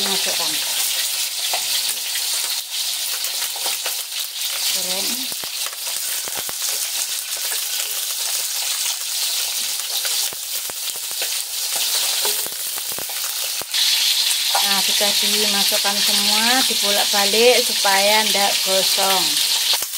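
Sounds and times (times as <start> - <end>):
peppers sizzling in hot oil: 0.0 - 19.9.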